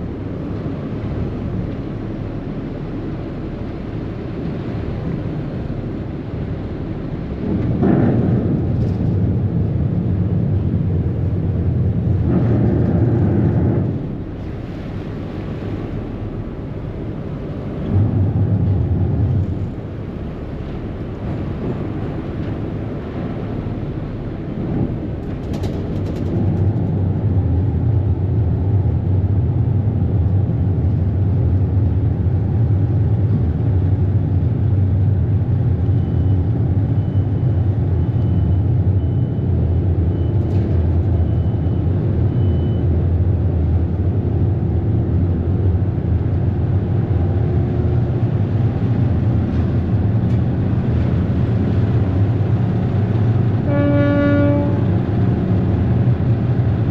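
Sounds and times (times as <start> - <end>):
ferry engines droning: 0.0 - 56.9.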